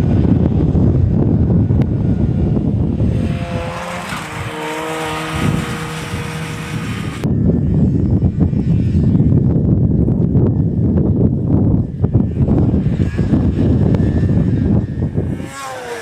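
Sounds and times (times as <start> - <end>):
snowmobile engine passing by: 0.0 - 9.4, 11.8 - 16.0
wind buffeting microphone: 0.0 - 16.0.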